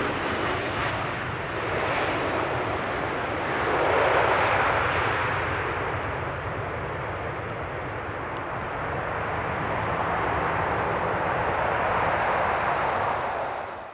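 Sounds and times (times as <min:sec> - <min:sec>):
jet engine rushing: 0:00.0 - 0:13.9.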